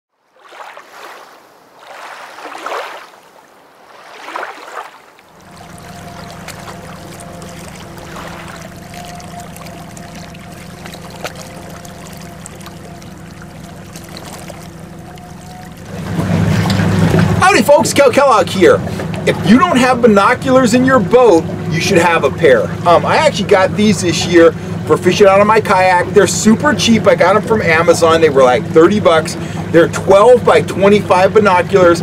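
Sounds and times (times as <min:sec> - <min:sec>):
rushes of water-like noise: 0:00.1 - 0:32.0
outboard motor humming: 0:00.4 - 0:32.0.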